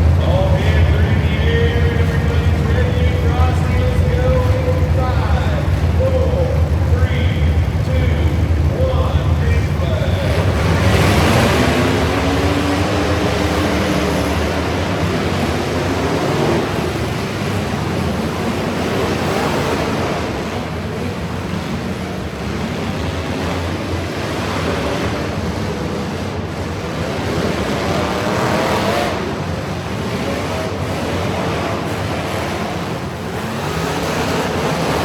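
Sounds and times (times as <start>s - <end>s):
loud steady rushing noise: 0.0s - 35.0s
truck engine revving: 0.0s - 35.0s.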